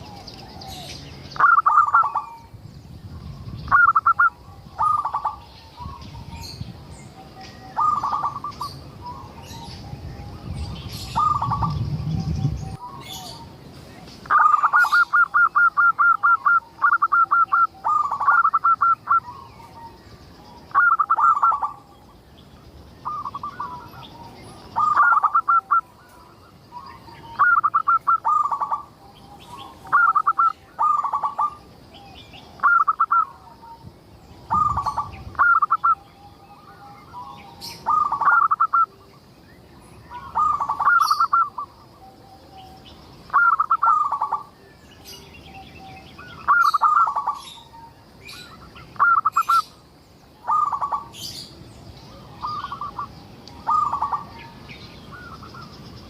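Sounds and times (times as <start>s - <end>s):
dove cooing: 0.0s - 2.5s, 3.7s - 6.4s, 7.2s - 13.5s, 14.2s - 21.9s, 23.0s - 25.9s, 26.7s - 33.8s, 34.5s - 38.9s, 40.1s - 44.5s, 45.8s - 49.7s, 50.4s - 51.5s, 52.1s - 55.7s.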